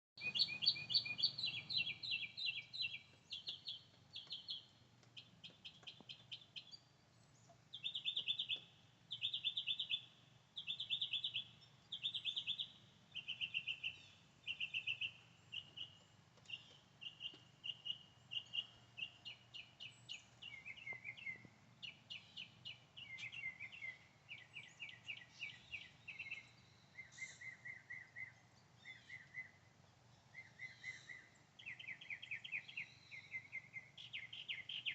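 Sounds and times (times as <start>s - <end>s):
songbirds trilling: 0.2s - 34.9s.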